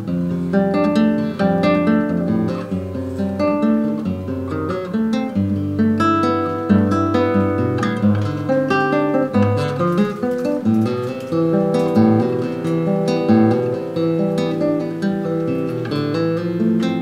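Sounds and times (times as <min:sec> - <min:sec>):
acoustic guitar plucked and strummed: 0:00.0 - 0:17.0.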